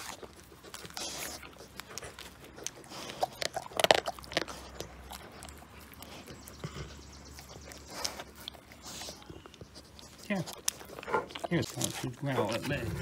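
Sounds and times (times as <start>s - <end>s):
dog gnawing on bone: 0.0s - 13.0s.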